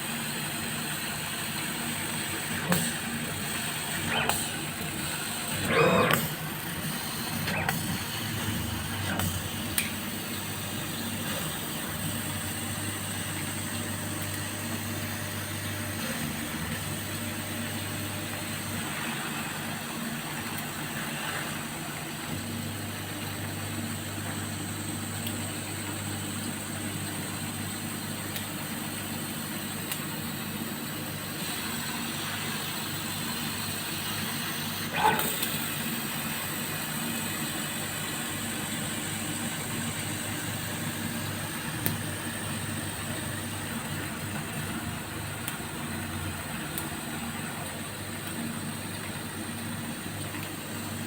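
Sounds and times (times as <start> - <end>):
laser cutter whirring: 0.0 - 51.0.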